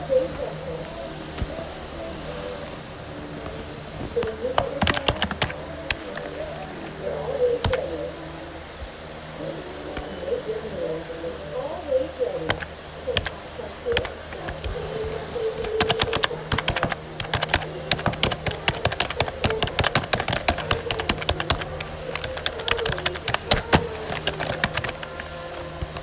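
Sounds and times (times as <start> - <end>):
faint wavering hum: 0.0 - 26.0
rapid irregular clicking: 0.0 - 26.0.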